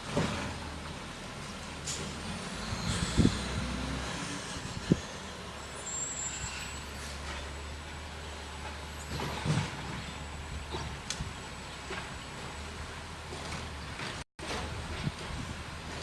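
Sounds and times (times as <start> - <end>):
garbage truck engine rumbling: 0.0 - 16.0.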